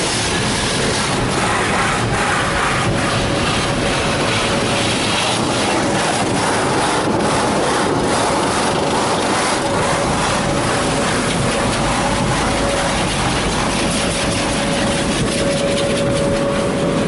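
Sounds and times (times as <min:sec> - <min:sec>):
car wash water spray rushing: 0:00.0 - 0:17.0.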